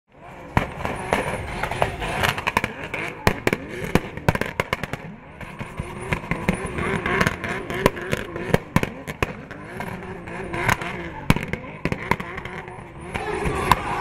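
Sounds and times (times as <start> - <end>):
car engine revving: 0.1 - 14.0
sharp cracks: 0.5 - 14.0.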